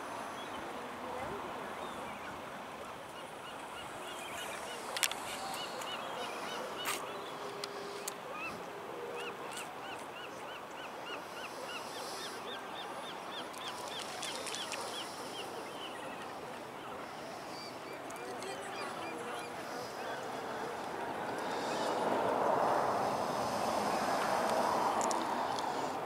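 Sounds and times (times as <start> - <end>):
water birds honking: 1.2 - 26.0.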